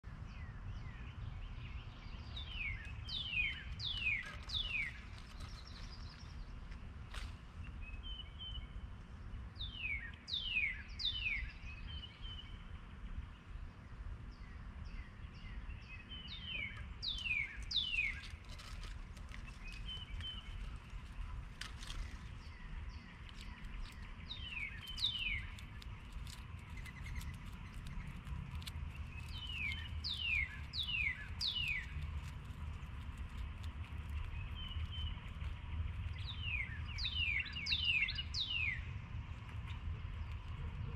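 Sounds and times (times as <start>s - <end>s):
low background rumble: 0.1s - 40.9s.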